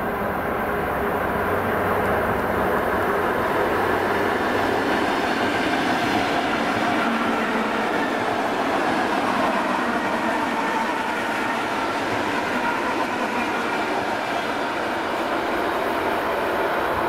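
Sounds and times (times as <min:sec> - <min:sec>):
train wheels rolling on track: 0:00.0 - 0:17.0.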